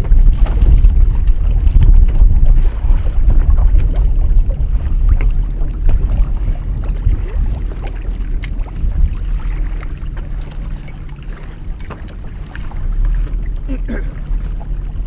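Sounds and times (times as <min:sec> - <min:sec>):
water slapping boat hull: 0:00.0 - 0:15.0
wind rumble on microphone: 0:00.0 - 0:15.0.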